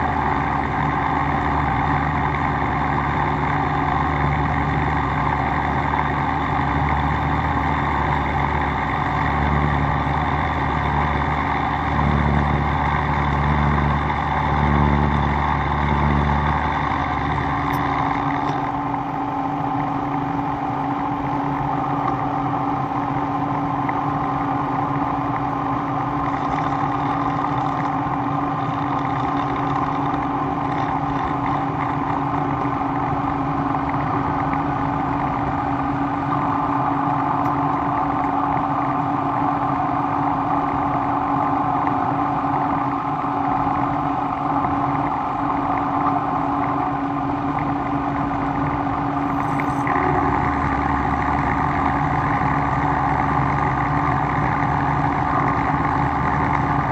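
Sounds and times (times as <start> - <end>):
machine humming: 0.0 - 56.9.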